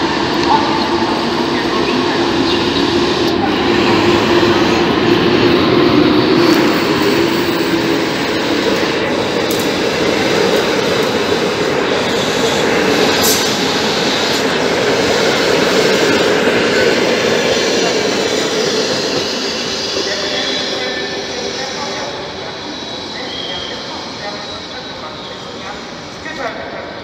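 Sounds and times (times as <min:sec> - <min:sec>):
train wheels on rails: 0:00.0 - 0:26.7
electric locomotive passing: 0:00.0 - 0:27.0.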